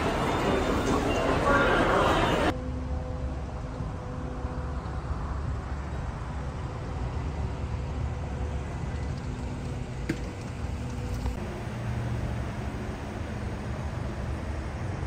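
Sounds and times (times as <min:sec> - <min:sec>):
idling and moving vehicles: 0:00.0 - 0:15.0.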